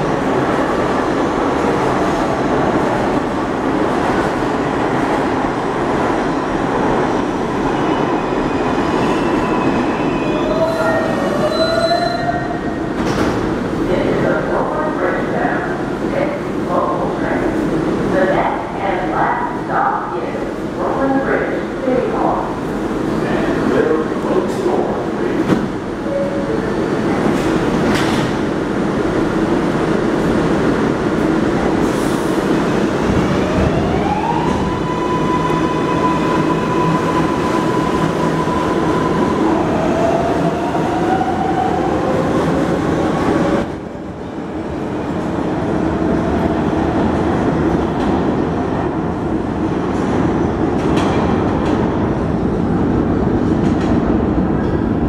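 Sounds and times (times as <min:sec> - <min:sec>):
subway wheels rumbling on rail: 0:00.0 - 0:55.0.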